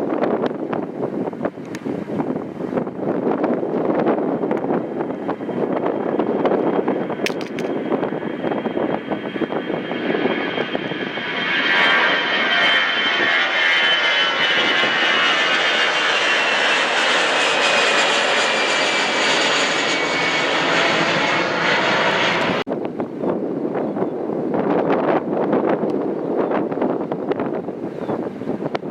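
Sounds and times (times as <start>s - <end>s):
jet engines passing: 0.0s - 28.9s
wind noise on microphone: 0.0s - 28.9s.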